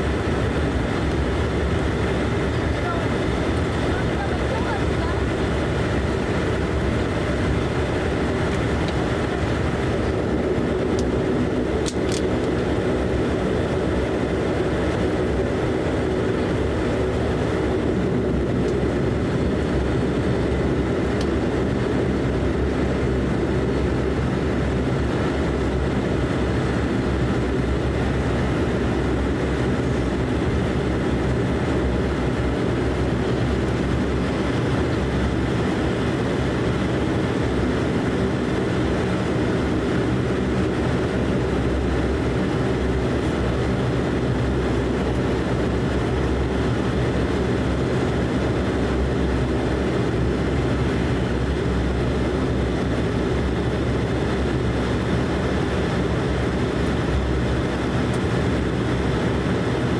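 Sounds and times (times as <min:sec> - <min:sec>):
turboprop engines and propellers: 0:00.0 - 0:59.9.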